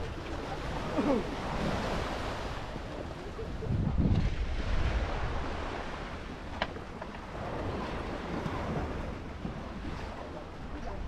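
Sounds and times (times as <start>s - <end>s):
sea water rushing: 0.0s - 11.0s
wind buffeting microphone: 0.0s - 11.0s.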